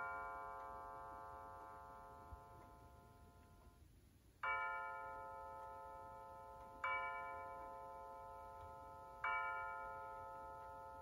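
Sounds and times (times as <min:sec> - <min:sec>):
mantel clock chiming: 0:00.0 - 0:11.0.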